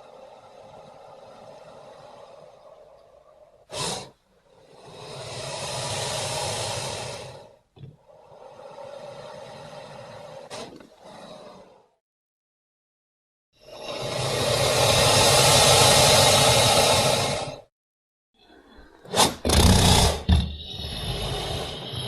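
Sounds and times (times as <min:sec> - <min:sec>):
breathy creature hissing: 0:00.0 - 0:03.0, 0:03.6 - 0:12.0, 0:13.6 - 0:17.7, 0:19.1 - 0:22.0.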